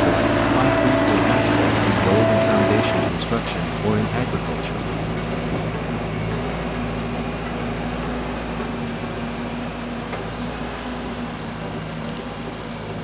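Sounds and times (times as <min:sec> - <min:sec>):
road roller diesel engine humming: 0:00.0 - 0:13.0.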